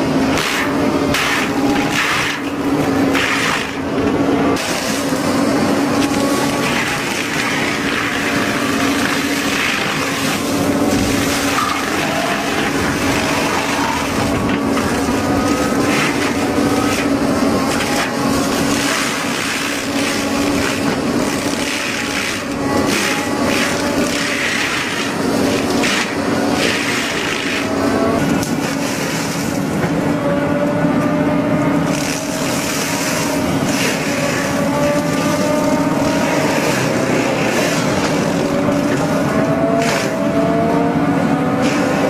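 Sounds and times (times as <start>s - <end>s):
excavator diesel engine running: 0.0s - 42.0s
mulcher shredding wood: 0.0s - 42.0s.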